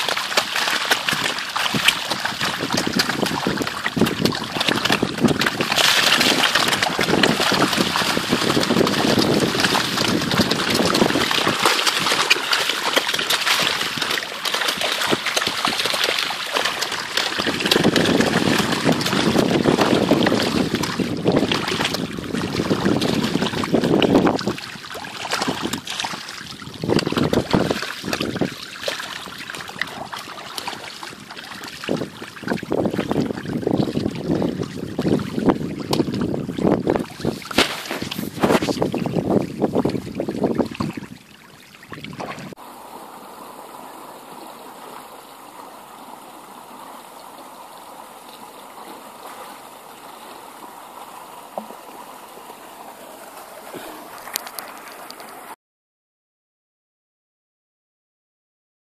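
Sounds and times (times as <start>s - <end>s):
fish splashing at water surface: 0.0s - 55.6s.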